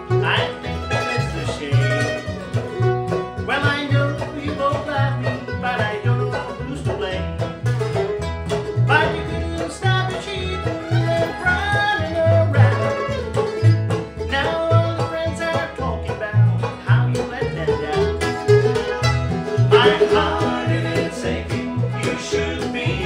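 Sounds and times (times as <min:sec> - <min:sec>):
acoustic guitar: 0:00.0 - 0:23.0
banjo: 0:00.0 - 0:23.0
mandolin: 0:00.0 - 0:23.0
upright bass pulsing: 0:00.0 - 0:23.0.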